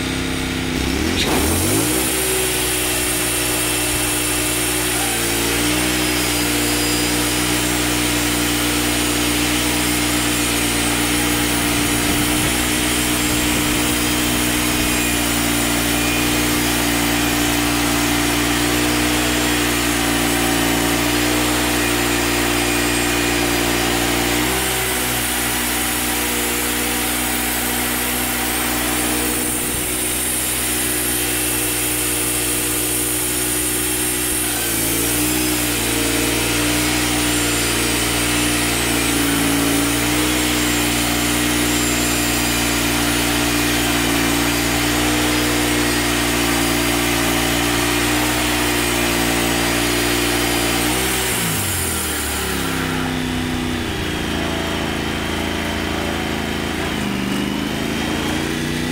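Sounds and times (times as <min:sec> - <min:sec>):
band sawmill engine running: 0:00.0 - 0:58.9.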